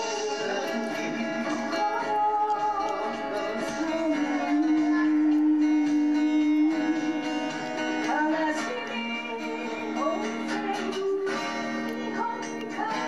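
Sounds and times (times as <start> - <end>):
guitar accompaniment: 0.0 - 13.0
woman singing: 0.0 - 13.0.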